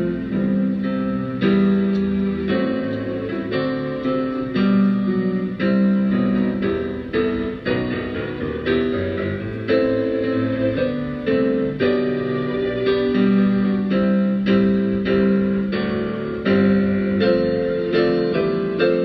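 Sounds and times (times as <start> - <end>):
keyboard playing sustained chords: 0.0 - 19.0.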